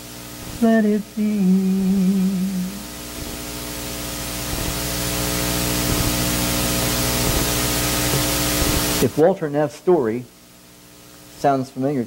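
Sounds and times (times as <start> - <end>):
electrical hiss: 0.0 - 12.0
mains hum: 0.0 - 12.0.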